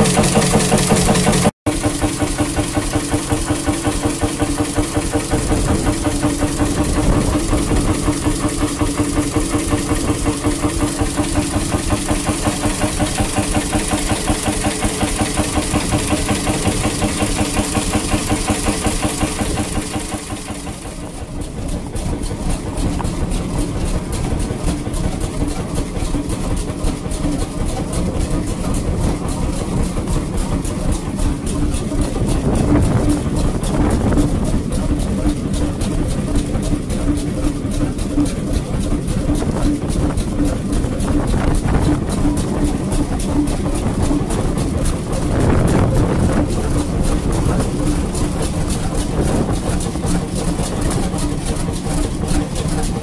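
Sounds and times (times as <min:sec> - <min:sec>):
hot-bulb engine running: 0:00.0 - 0:53.0
stationary engine running: 0:00.0 - 0:53.0.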